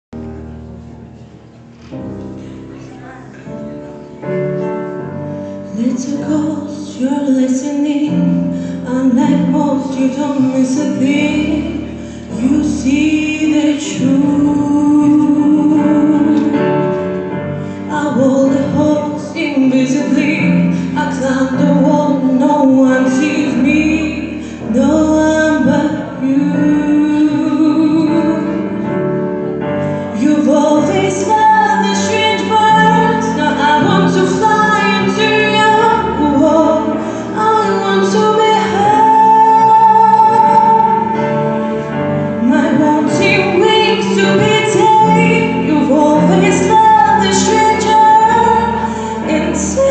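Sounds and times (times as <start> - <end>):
instrumental accompaniment: 0.1 - 49.9
woman singing: 5.6 - 29.2, 30.0 - 41.6, 42.2 - 49.9.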